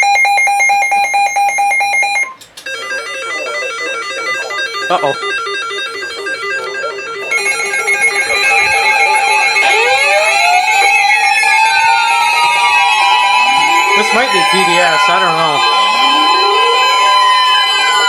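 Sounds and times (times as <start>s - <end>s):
weather radio alert beeping: 0.0s - 18.0s
sweeping siren-like tones: 2.7s - 18.0s.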